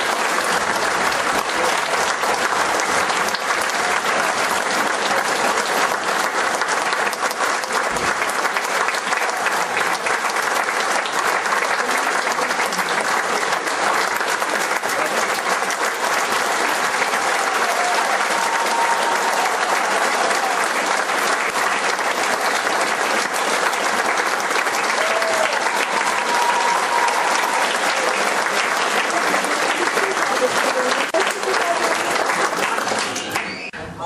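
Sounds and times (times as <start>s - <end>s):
audience applauding: 0.0s - 33.8s.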